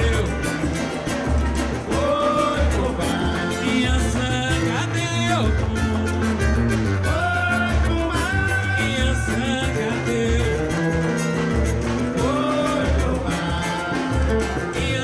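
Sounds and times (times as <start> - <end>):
acoustic guitar: 0.0 - 15.0
people singing: 0.0 - 15.0.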